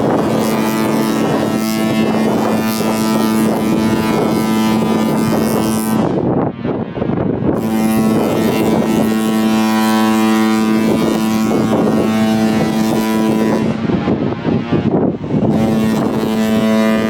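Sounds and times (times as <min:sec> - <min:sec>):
ship horn blast: 0:00.0 - 0:06.5, 0:07.4 - 0:17.0
wind noise on microphone: 0:00.0 - 0:17.0.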